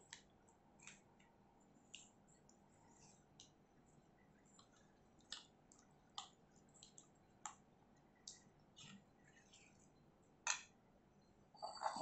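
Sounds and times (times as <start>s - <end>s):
spatula stirring thick custard: 0.0s - 10.4s.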